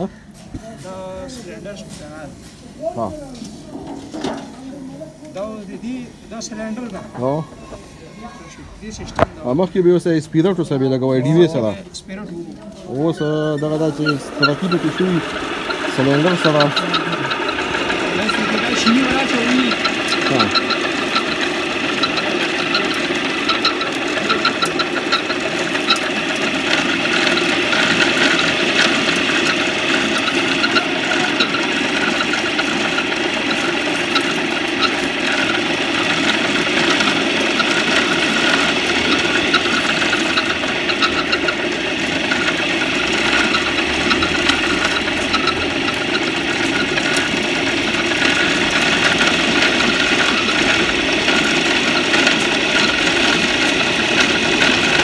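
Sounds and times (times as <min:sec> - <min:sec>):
engine idling: 0:10.8 - 0:55.0.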